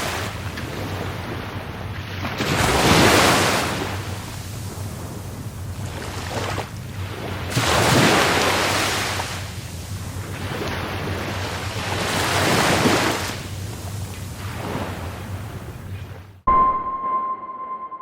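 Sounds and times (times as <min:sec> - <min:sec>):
low rumble of surf: 0:00.0 - 0:16.4
sea waves breaking: 0:00.0 - 0:16.4.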